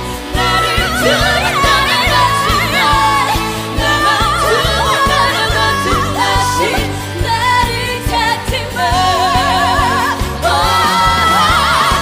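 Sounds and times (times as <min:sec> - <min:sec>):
pop music: 0:00.0 - 0:12.0.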